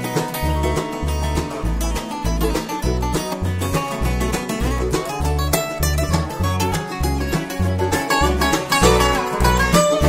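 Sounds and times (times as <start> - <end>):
acoustic guitars picking: 0.0 - 10.0
banjo picking: 0.0 - 10.0
dobro: 0.0 - 10.0
mandolin picking: 0.0 - 10.0
upright bass: 0.0 - 10.0.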